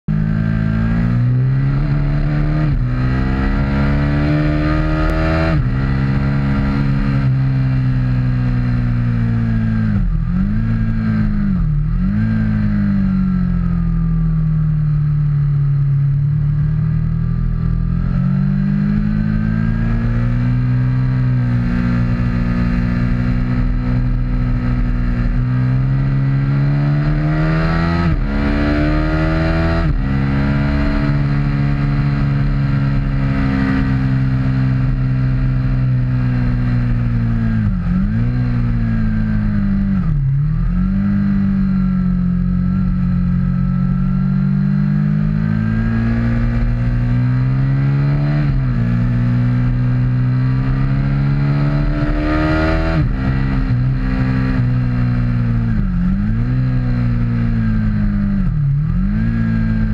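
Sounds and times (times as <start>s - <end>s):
motorcycle engine revving: 0.1s - 59.9s.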